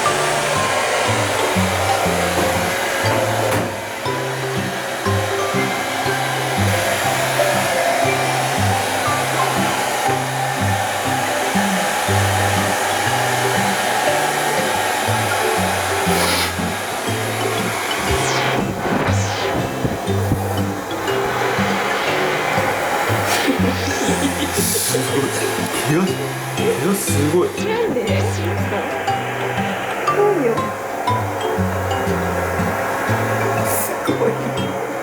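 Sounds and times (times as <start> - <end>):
hair dryer blowing: 0.0 - 35.0.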